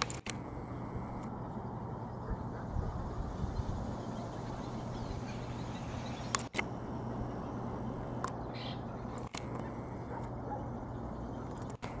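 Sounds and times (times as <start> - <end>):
harsh croaking bird calls: 0.0 - 6.5, 7.2 - 12.0.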